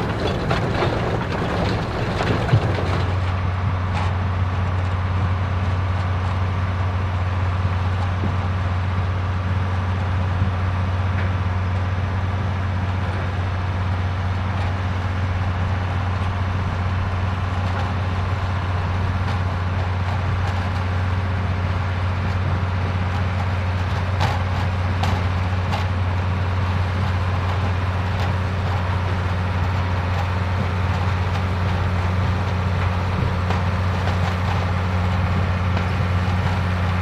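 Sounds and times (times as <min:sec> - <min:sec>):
tractor engine humming: 0:00.0 - 0:37.0.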